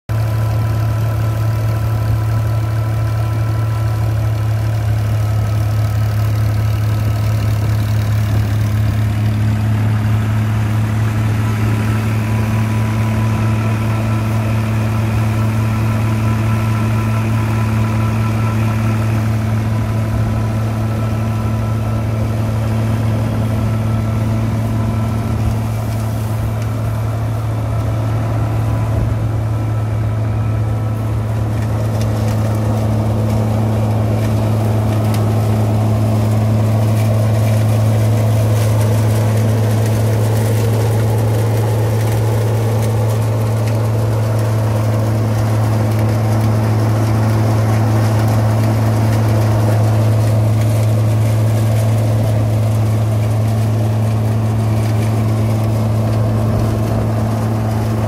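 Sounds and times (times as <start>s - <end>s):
tractor engine running under load: 0.0s - 58.0s
thresher drum whining: 0.4s - 58.0s.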